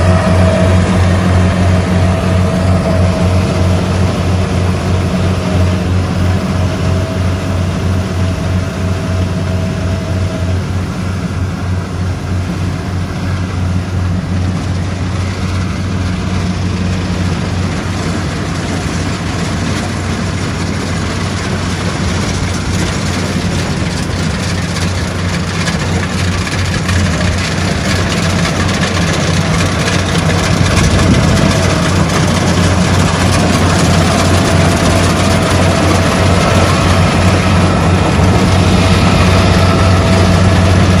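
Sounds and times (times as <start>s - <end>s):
combine harvester engine running: 0.0s - 41.0s.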